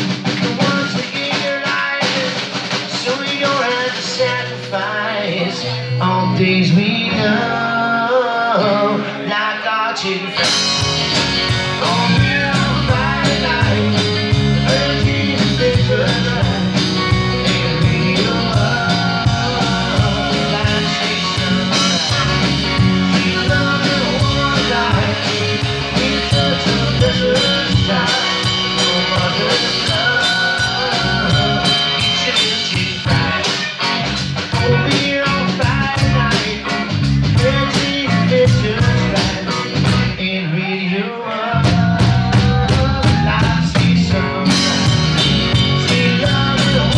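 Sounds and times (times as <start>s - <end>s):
drum kit: 0.0s - 7.6s, 10.3s - 40.4s, 41.5s - 46.9s
acoustic guitar: 0.0s - 46.9s
bass guitar: 0.0s - 46.9s
electric guitar: 0.0s - 46.9s.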